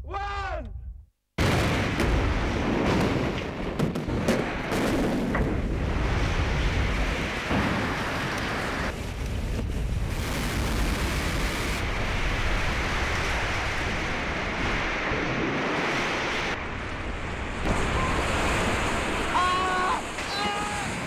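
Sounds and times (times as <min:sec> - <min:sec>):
falling debris rushing: 0:01.4 - 0:21.0.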